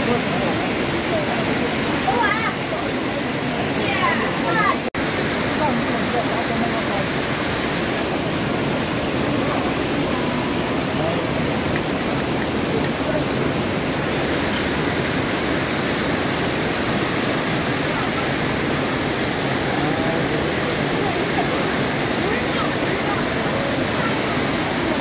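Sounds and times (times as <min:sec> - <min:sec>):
faint voices: 0:00.0 - 0:25.0
mountain stream rushing: 0:00.0 - 0:25.0.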